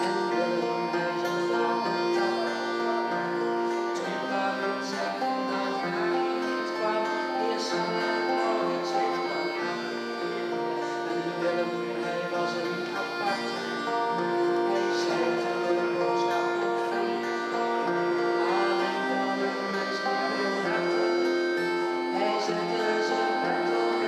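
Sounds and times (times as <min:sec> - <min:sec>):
accordion chords and melody: 0:00.0 - 0:24.0
acoustic guitars: 0:00.0 - 0:24.0.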